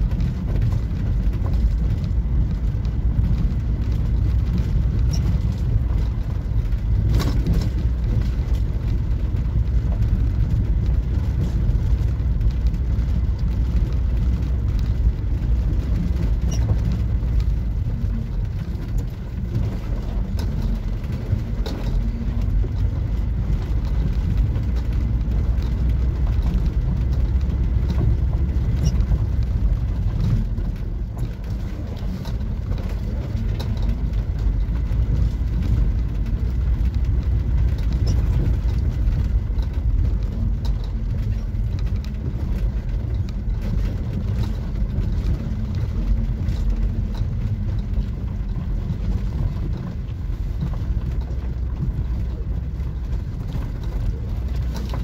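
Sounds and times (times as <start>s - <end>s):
engine and tyres on gravel: 0.0s - 55.0s
light clicks and rattles: 0.0s - 55.0s.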